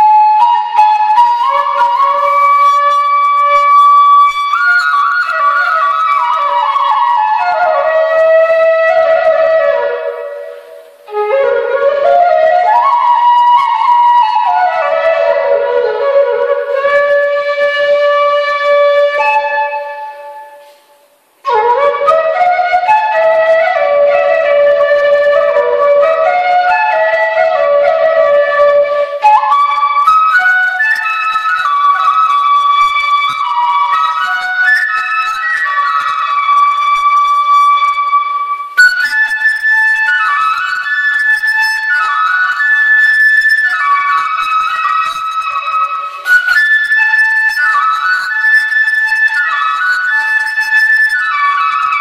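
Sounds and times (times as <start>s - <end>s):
flute melody: 0.0s - 52.0s.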